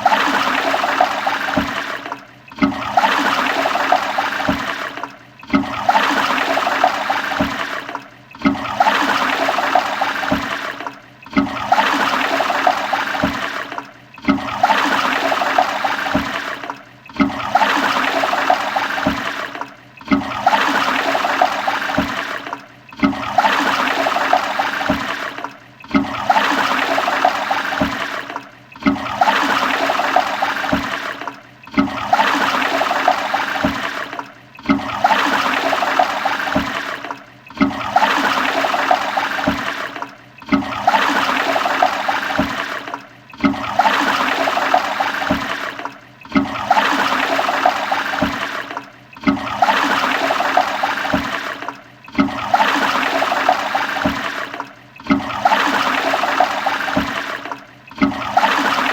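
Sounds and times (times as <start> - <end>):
toilet flushing: 0.0 - 58.9.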